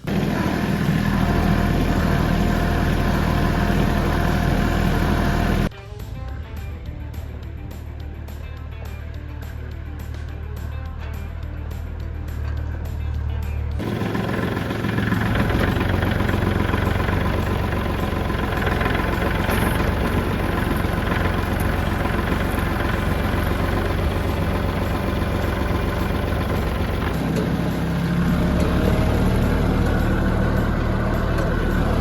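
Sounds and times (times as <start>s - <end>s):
tractor engine running: 0.0s - 5.7s, 6.4s - 32.0s.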